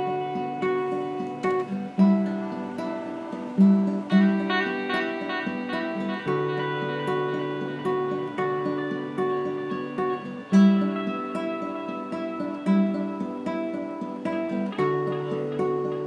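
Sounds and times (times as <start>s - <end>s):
acoustic guitar picked notes: 0.0s - 16.0s.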